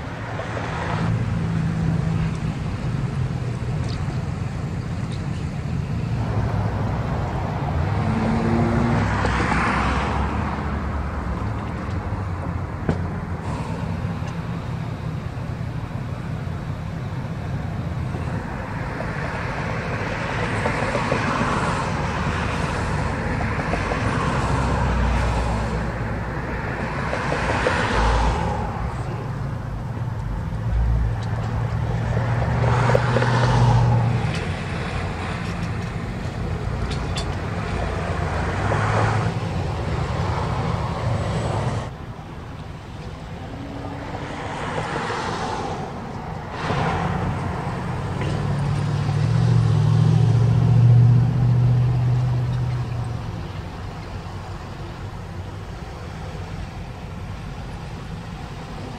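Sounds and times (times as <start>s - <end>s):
vehicles passing by: 0.0s - 58.9s
low engine drone: 10.1s - 58.9s.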